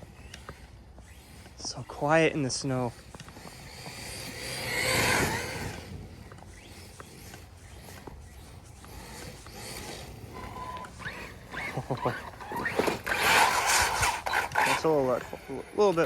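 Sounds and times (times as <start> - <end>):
electric motor whine: 0.0 - 16.0
tyres churning through snow: 0.0 - 16.0.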